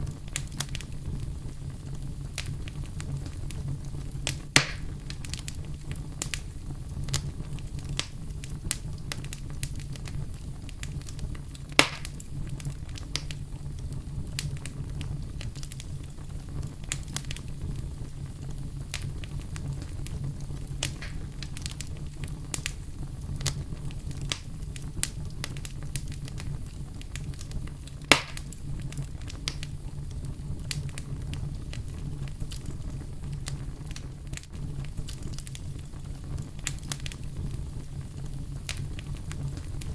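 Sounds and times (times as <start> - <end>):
fire crackling: 0.0 - 39.9
fire rumbling in fireplace: 0.0 - 39.9
loud sharp fire pops: 0.0 - 39.9.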